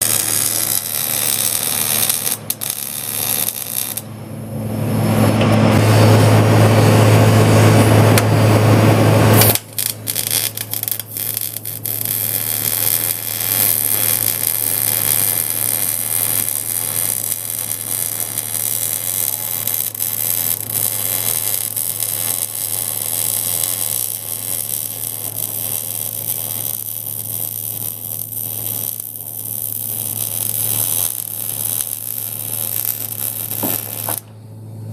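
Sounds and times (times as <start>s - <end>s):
electrical buzzing hum: 0.0s - 34.9s
loud harsh buzz: 0.0s - 34.9s.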